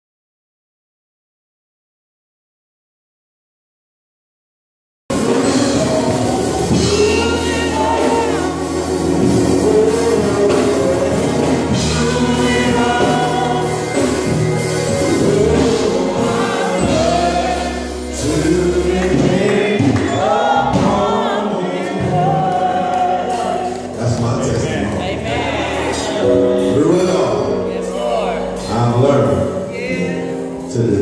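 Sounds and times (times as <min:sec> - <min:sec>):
choir singing gospel music: 0:05.1 - 0:31.0
held low accompanying notes: 0:05.1 - 0:31.0.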